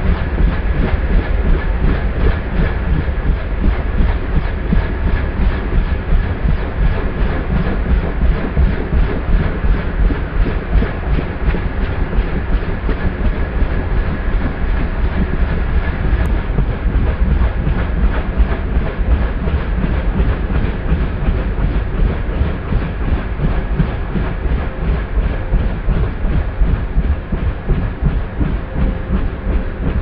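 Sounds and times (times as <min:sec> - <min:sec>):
helicopter rotor beat: 0:00.0 - 0:30.0.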